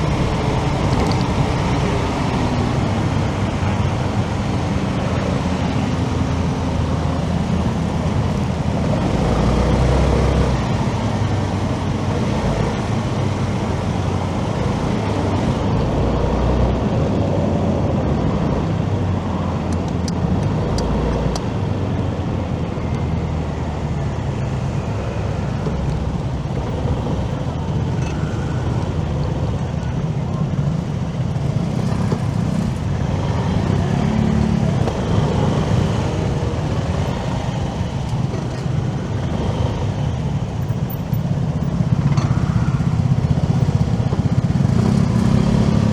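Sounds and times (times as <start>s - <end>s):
cars passing: 0.0s - 45.9s
motorcycle engine and tyre noise: 0.0s - 45.9s.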